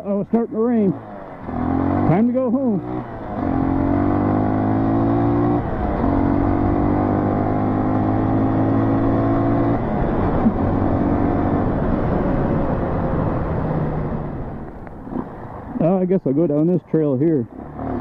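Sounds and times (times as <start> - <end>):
dirt bike engine running: 0.2 - 13.4, 14.0 - 18.0.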